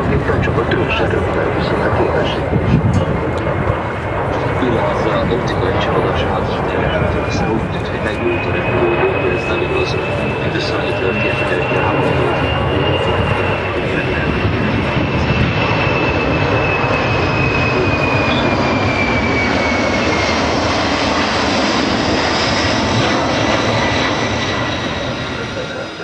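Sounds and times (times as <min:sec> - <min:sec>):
high jet whine falling in pitch: 0:00.0 - 0:26.0
jet engines roaring: 0:00.0 - 0:26.0.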